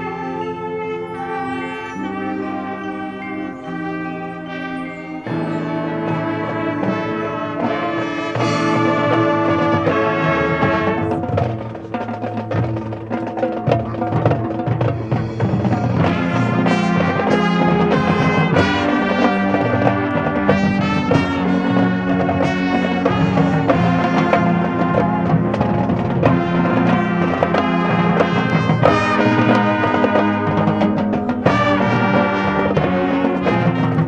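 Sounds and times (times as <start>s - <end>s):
marching band playing: 0.0s - 34.0s
drum and timpani hits: 5.3s - 34.0s.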